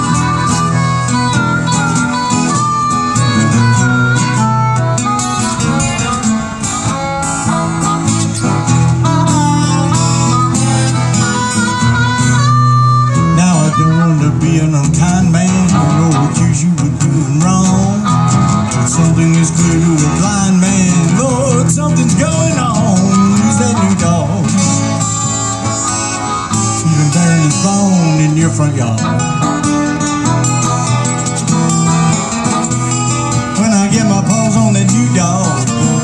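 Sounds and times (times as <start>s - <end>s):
acoustic guitars strumming: 0.0s - 36.0s
harmonica melody: 0.0s - 36.0s.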